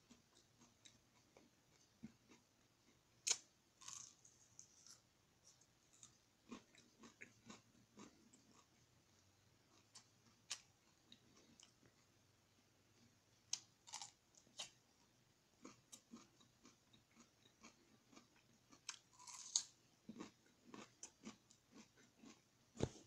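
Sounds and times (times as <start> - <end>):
person chewing and crunching: 0.0 - 8.8, 9.6 - 12.1, 13.0 - 14.8, 15.6 - 23.0.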